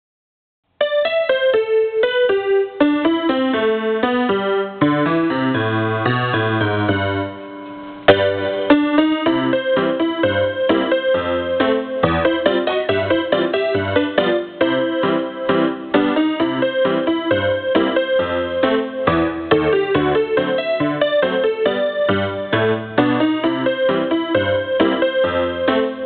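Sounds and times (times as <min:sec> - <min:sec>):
electronic keyboard playing a tune: 0:00.7 - 0:26.0.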